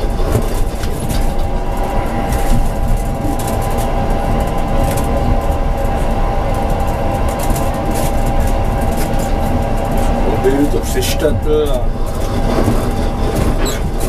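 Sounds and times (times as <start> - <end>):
steady whine: 0.0 - 14.0
tram wheels rumbling on rails: 0.0 - 14.0.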